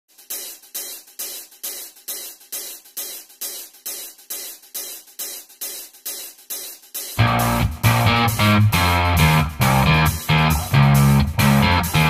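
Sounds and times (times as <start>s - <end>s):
hissing percussion beat: 0.1s - 12.0s.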